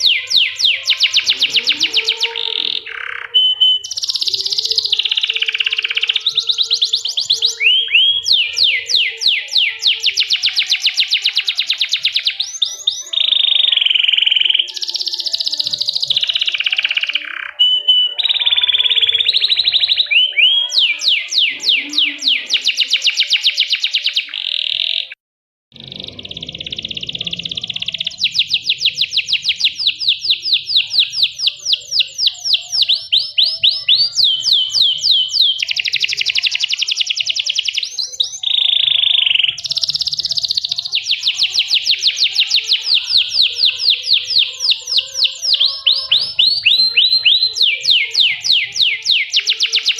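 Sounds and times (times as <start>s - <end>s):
canary trilling: 0.0s - 49.9s.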